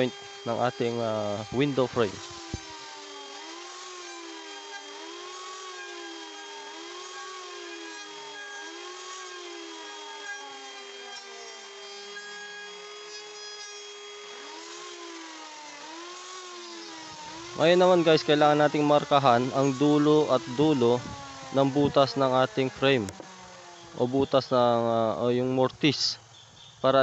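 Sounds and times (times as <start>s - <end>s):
power tool cutting wood: 0.0s - 26.1s.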